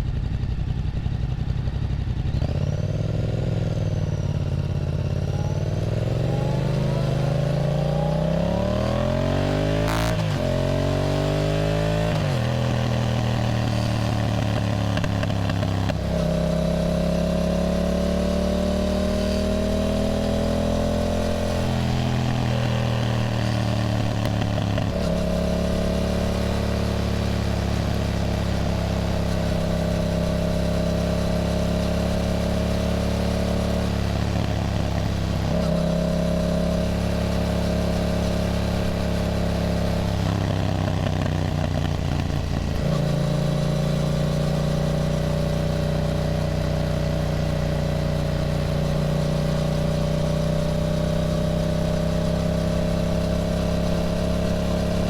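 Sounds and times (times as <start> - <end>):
motorcycle engine shifting gears: 0.1 - 55.0.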